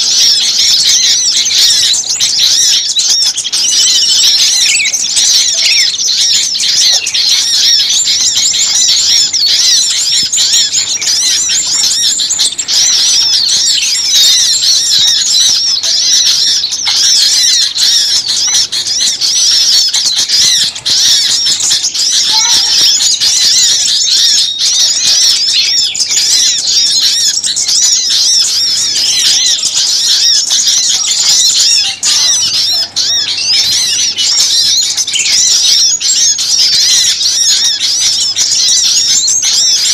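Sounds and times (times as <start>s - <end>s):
songbirds chattering and chirping: 0.0s - 39.9s.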